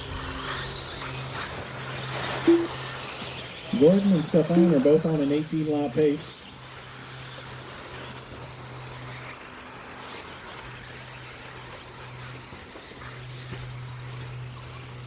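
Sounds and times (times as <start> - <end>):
electric toy trucks racing on dirt: 0.0 - 15.0
low hum: 0.0 - 15.0.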